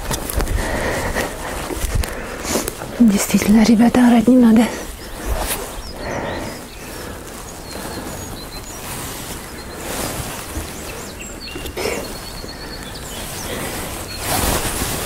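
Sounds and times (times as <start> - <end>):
clothing rustle: 0.0 - 15.0
small birds chirping: 0.0 - 15.0
wind rumble on microphone: 0.0 - 15.0.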